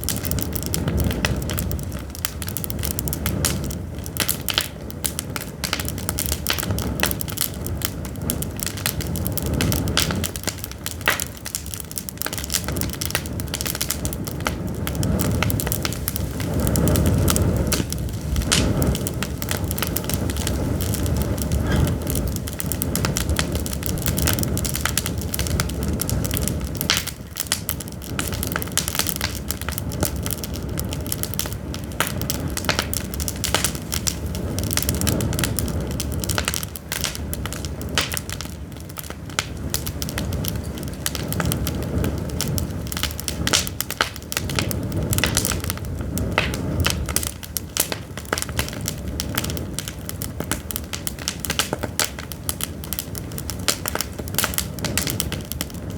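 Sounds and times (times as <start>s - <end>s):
firewood crackling and popping: 0.0s - 55.9s
low rumble of flames: 0.0s - 55.9s.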